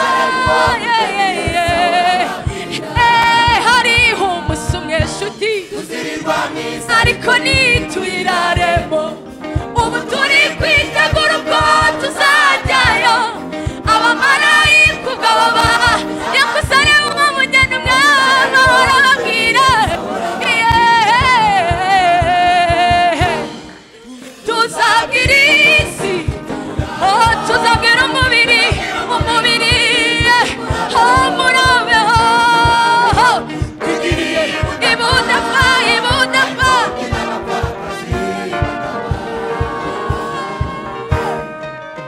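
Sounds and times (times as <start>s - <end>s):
gospel song with backing track: 0.0s - 42.0s.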